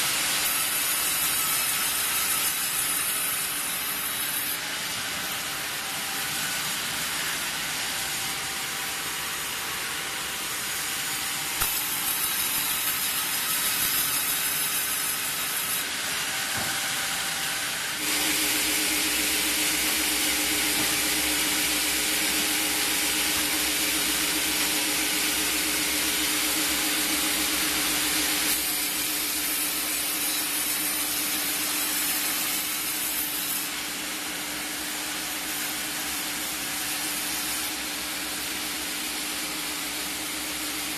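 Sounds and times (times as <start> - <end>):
band saw cutting logs: 0.0 - 40.9.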